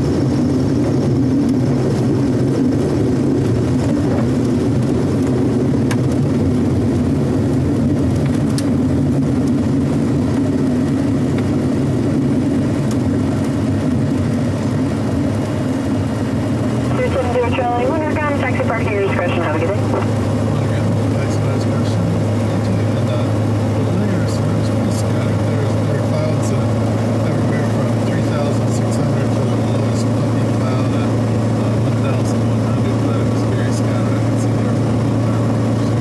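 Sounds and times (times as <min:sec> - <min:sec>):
airplane piston engine and propeller: 0:00.0 - 0:36.0.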